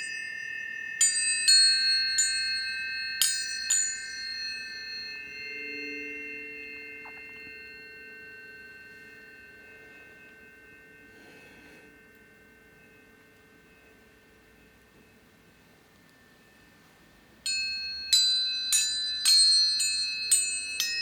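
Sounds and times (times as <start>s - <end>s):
tuning forks ringing: 0.0s - 21.0s.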